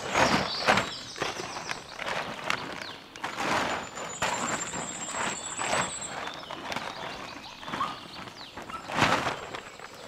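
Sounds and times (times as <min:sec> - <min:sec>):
plastic tarp crinkling: 0:00.0 - 0:10.0.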